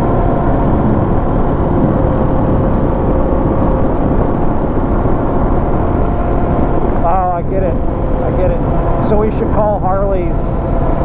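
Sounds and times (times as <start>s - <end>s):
faint steady whine: 0.0s - 11.0s
motorcycle engine cruising: 0.0s - 11.0s
wind rush: 0.0s - 11.0s.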